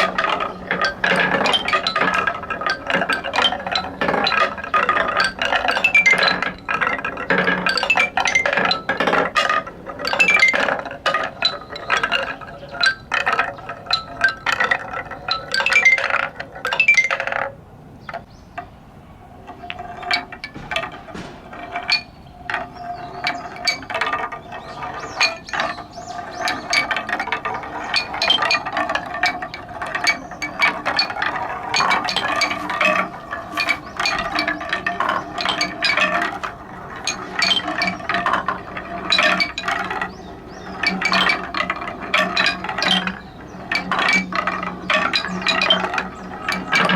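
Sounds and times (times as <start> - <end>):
balls clattering down wooden marble run: 0.0 - 18.7, 19.3 - 46.9.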